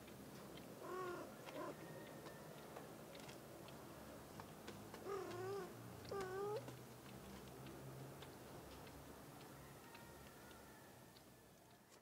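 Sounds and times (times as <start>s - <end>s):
faint low traffic hum: 0.0s - 12.0s.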